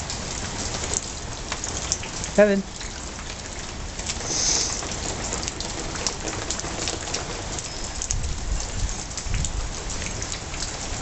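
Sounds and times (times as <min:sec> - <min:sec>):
raindrops pattering close by: 0:00.0 - 0:11.0
steady rain falling: 0:00.0 - 0:11.0.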